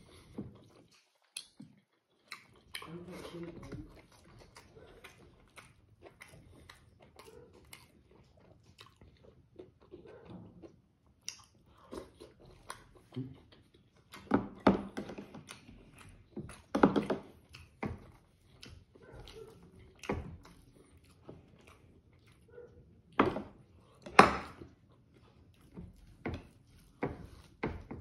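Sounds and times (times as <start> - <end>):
person chewing and biting: 0.0 - 3.0, 3.6 - 28.0.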